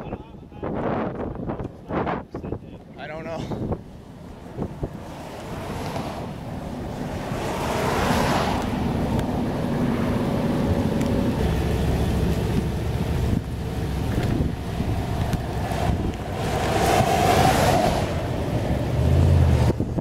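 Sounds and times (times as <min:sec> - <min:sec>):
wind buffeting microphone: 0:00.0 - 0:20.0
heavy vehicle low rumble: 0:00.2 - 0:20.0
car tyre noise: 0:00.8 - 0:20.0.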